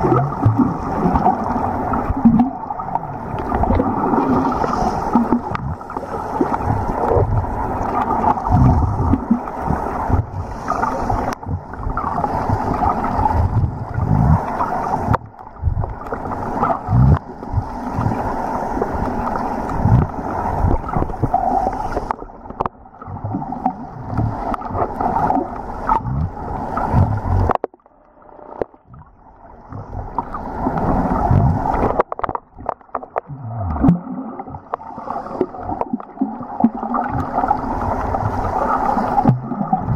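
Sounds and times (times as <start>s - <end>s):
muffled underwater noise: 0.0s - 39.9s
underwater thumps and gurgles: 0.0s - 39.9s.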